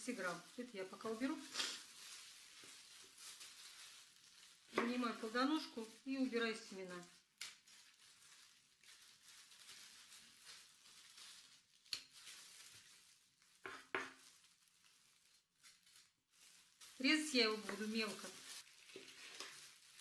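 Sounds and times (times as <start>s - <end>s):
plastic glove crinkling: 0.0s - 20.0s.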